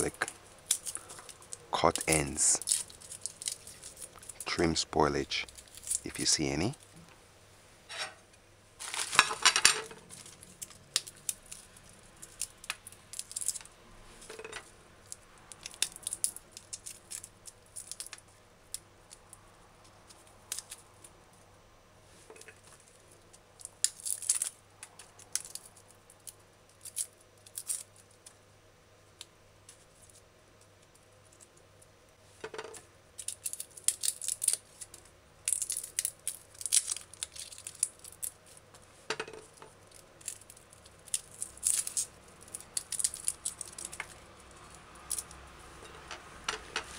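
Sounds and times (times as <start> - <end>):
crackling of dry garlic skin: 0.0 - 7.1, 8.8 - 21.5, 22.2 - 28.4, 29.1 - 32.2, 32.8 - 46.9.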